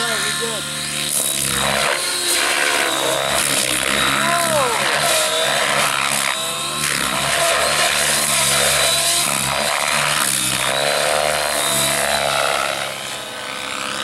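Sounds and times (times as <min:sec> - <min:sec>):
model helicopter rotor running: 0:00.0 - 0:14.0.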